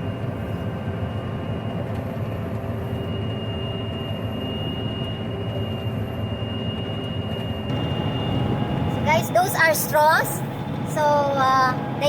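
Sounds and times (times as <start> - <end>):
combine harvester drone: 0.0 - 12.0
thin high whine: 0.0 - 12.0.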